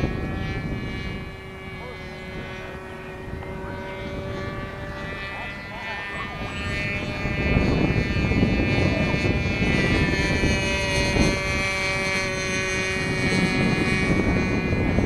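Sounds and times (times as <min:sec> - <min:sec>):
model aircraft motor humming: 0:00.0 - 0:15.0
wind rumbling on microphone: 0:00.0 - 0:15.0.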